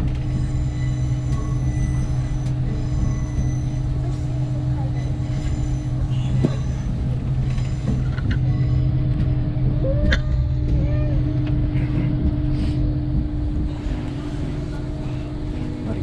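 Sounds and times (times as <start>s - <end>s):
train carriage rumble and hum: 0.0s - 16.0s.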